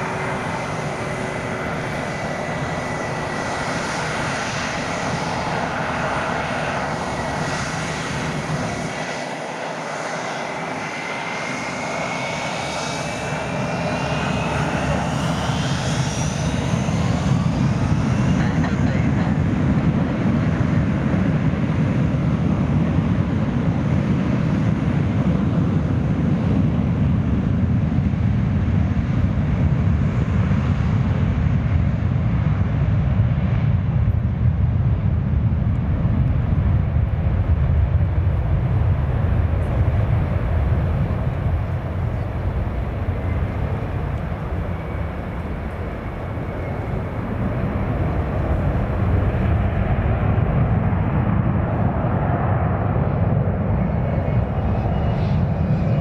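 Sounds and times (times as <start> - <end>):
jet engines deep rumble: 0.0 - 56.0.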